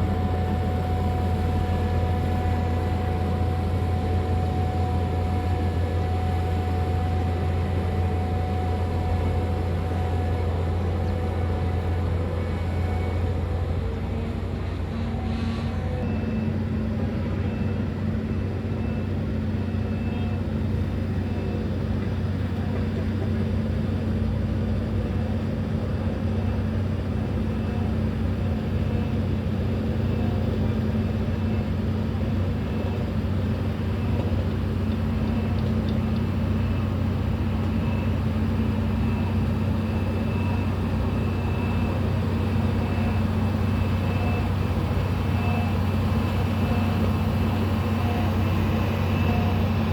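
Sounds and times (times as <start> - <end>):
bulldozer diesel engine droning: 0.0 - 49.9.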